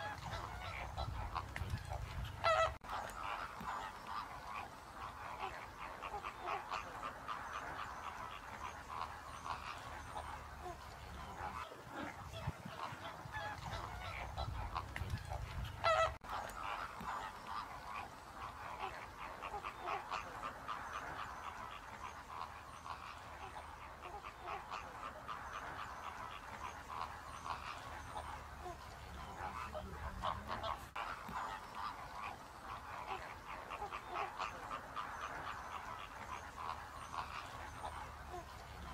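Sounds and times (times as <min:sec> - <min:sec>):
flamingos honking: 0:00.0 - 0:38.9.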